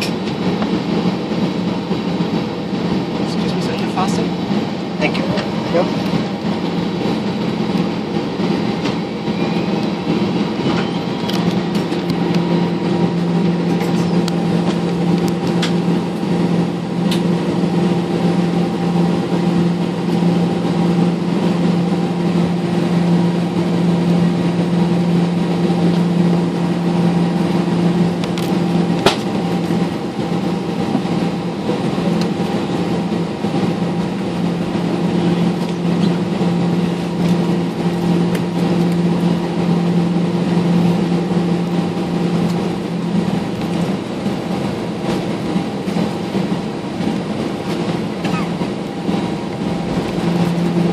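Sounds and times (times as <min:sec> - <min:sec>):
jet engines idling: 0:00.0 - 0:50.9.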